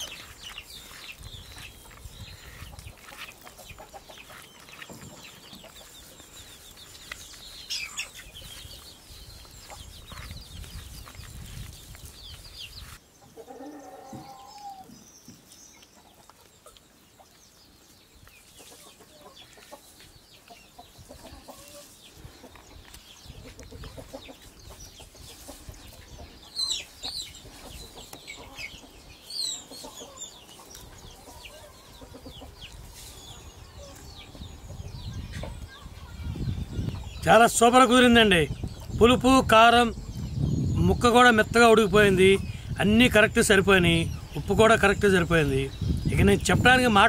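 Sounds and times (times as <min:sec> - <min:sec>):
chickens clucking: 0:00.0 - 0:47.0.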